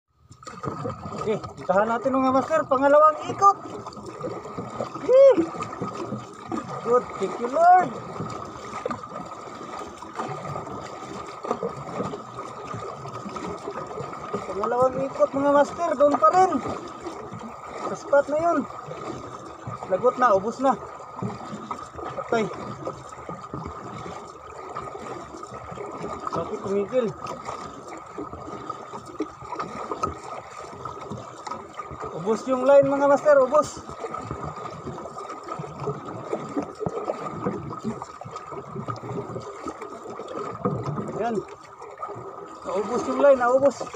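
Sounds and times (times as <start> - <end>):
water lapping against boat hull: 0.1 - 43.9.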